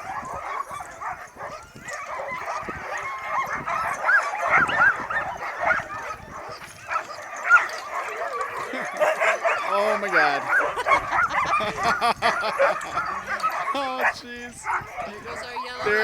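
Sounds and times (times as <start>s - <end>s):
sled dogs yipping and barking: 0.0s - 16.0s.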